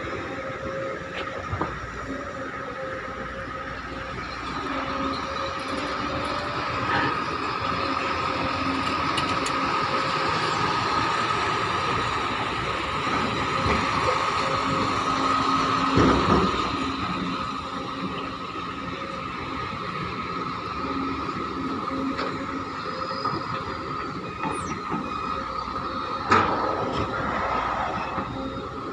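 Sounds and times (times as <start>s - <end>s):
excavator engine and hydraulics: 0.0s - 28.9s.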